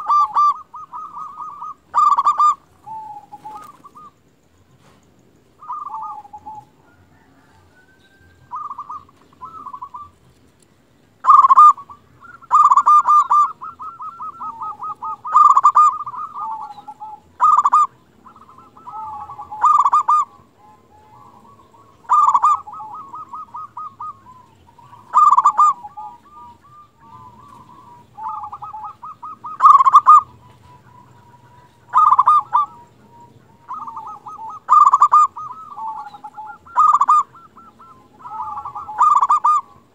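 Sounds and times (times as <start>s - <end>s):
dove cooing: 0.0s - 10.6s, 11.2s - 39.9s.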